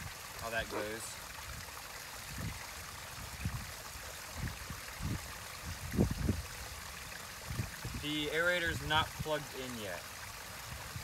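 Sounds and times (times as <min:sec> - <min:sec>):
water trickling from filter: 0:00.0 - 0:11.0.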